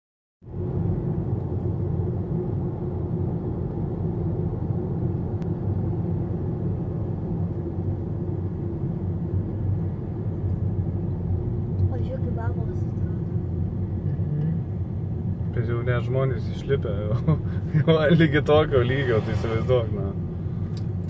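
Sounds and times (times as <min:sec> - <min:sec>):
car engine and tyres rumbling: 0:00.4 - 0:21.0.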